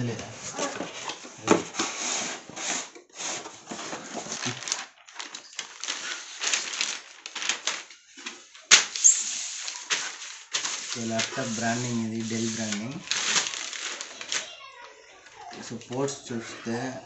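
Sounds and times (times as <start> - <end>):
packaging rustling: 0.4 - 17.0.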